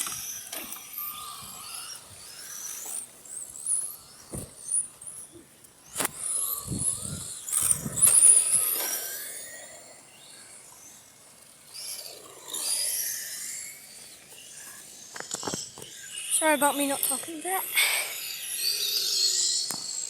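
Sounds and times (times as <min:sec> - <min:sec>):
model car motors whining: 0:00.0 - 0:20.0.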